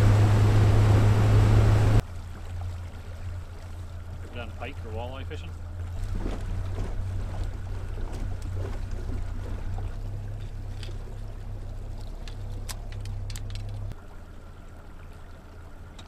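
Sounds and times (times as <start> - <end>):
outboard motor droning: 0.0 - 16.0
water noise: 0.0 - 16.0.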